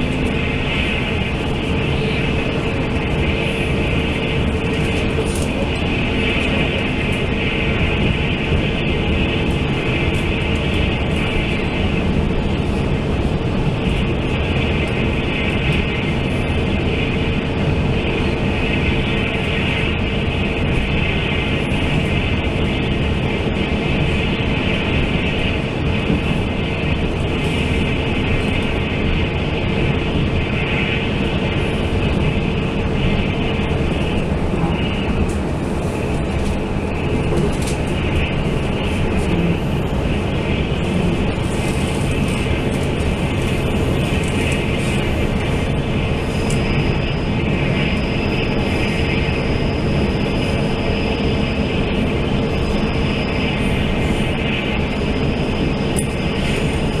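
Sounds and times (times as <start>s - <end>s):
steady hum: 0.0s - 57.0s
train wheels rumbling on rails: 0.0s - 57.0s.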